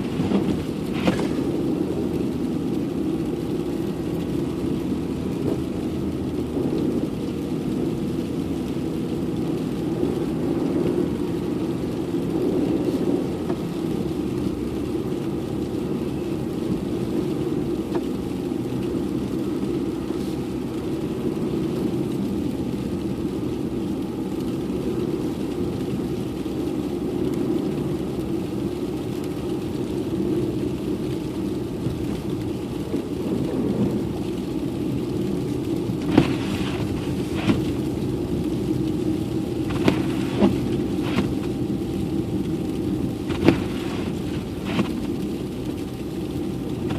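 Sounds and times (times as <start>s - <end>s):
car engine: 0.0s - 46.9s
tyres on snowy road: 0.0s - 46.9s.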